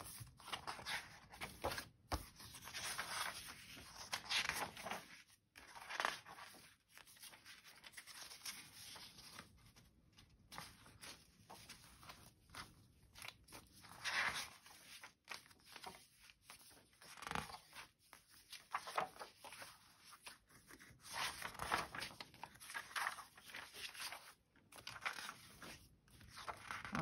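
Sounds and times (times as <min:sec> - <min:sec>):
paper pages rustling: 0:00.0 - 0:27.0.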